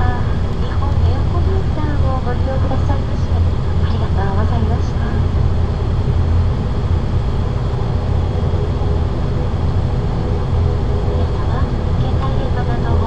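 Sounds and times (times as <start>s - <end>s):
propeller engine droning: 0.0s - 13.0s.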